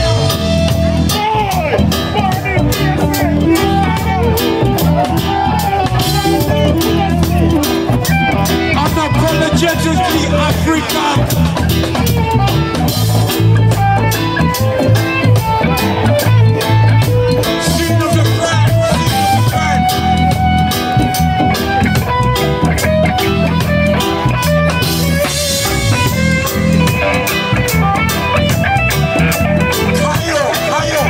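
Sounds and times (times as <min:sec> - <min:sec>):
bass guitar: 0:00.0 - 0:31.0
drum kit beat: 0:00.0 - 0:31.0
electric guitar: 0:00.0 - 0:31.0
keyboard: 0:00.0 - 0:31.0.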